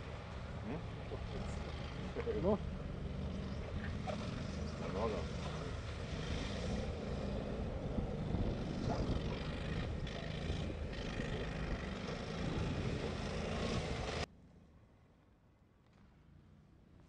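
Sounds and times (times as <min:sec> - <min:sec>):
all-terrain vehicle engine running: 0:00.0 - 0:14.3.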